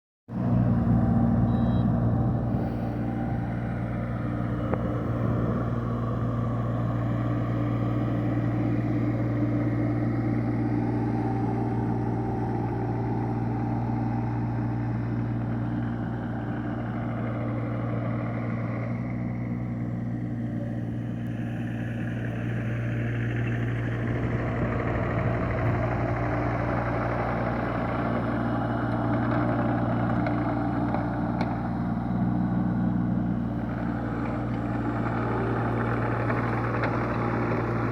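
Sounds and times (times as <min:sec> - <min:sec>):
diesel engine running: 0:00.3 - 0:37.9.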